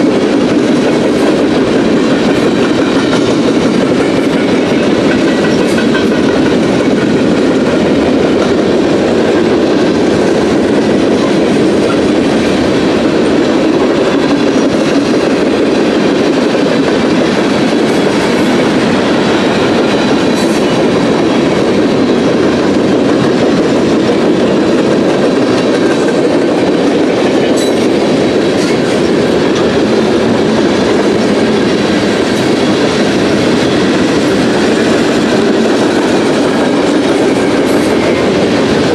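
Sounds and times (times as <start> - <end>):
steel wheels rolling on rails: 0.0 - 38.9.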